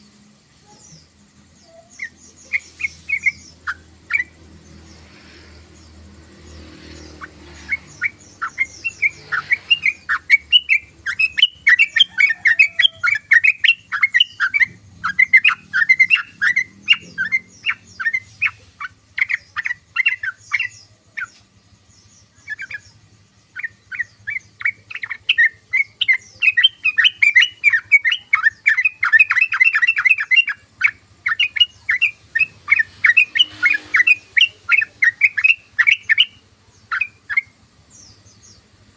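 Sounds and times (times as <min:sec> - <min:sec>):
bulbul chattering: 0:00.0 - 0:38.9.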